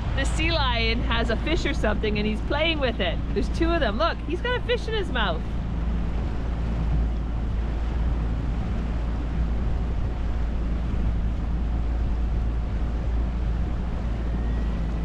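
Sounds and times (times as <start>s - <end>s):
outboard motor running: 0.0s - 15.0s
wind rumbling on microphone: 0.0s - 15.0s.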